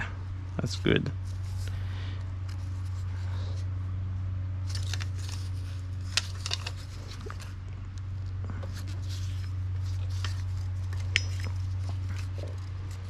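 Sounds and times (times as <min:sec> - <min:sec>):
steady low hum: 0:00.0 - 0:13.0
clicks and rustles of parts: 0:01.2 - 0:03.6, 0:04.6 - 0:13.0.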